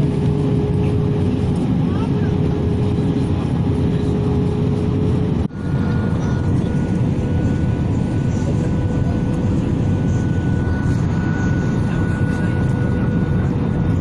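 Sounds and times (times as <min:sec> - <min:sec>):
faint engine whine: 0:00.0 - 0:14.0
jet engine cabin rumble: 0:00.0 - 0:14.0.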